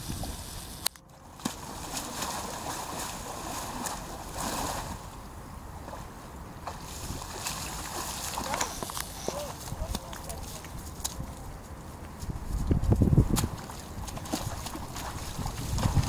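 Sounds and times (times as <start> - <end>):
water splashing and sloshing: 0.0 - 11.4, 13.3 - 16.0.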